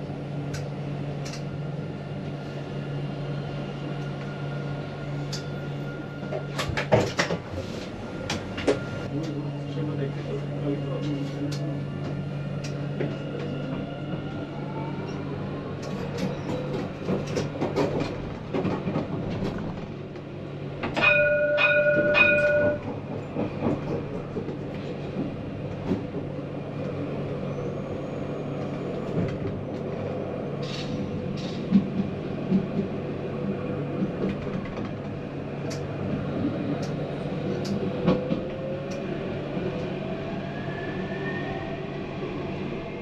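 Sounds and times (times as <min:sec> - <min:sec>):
tram electrical hum: 0:00.0 - 0:43.0.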